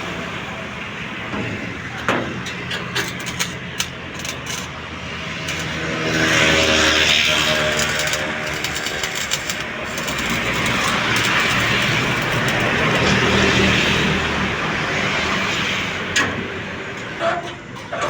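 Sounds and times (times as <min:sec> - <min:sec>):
truck engine running: 0:00.0 - 0:17.2.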